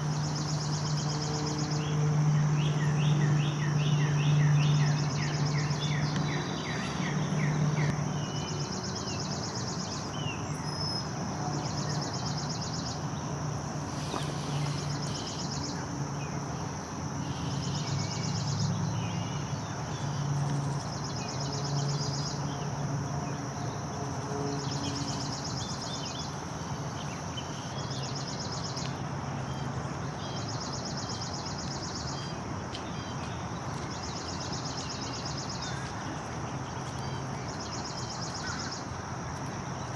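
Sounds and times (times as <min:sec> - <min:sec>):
insects trilling: 0:00.0 - 0:39.9
steady background noise: 0:00.0 - 0:39.9.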